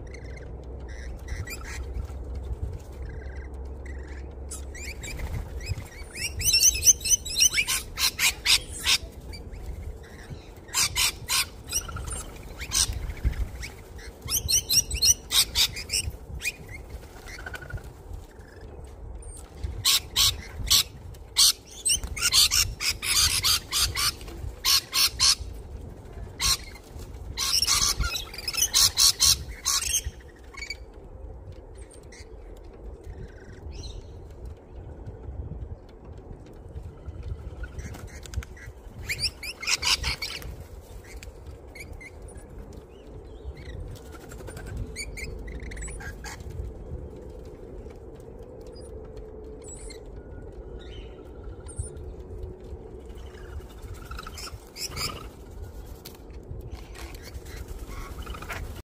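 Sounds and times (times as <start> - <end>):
birds chirping and squawking: 0.0 - 35.1, 36.1 - 58.8.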